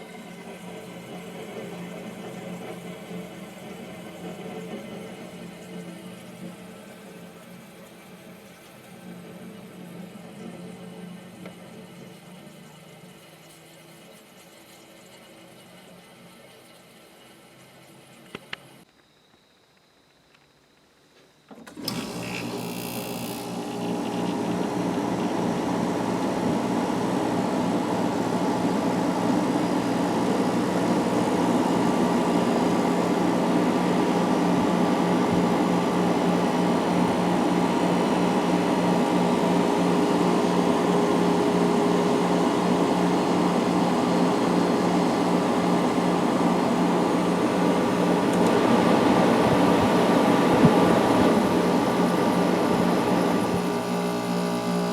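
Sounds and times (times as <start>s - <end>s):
air conditioner compressor and fan hum: 0.0s - 18.9s, 21.4s - 54.9s.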